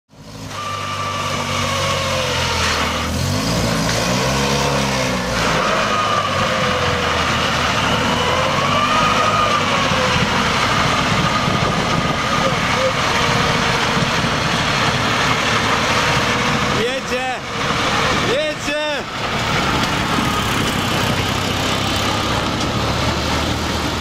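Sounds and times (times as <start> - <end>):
small engine running under load: 0.2 - 24.0.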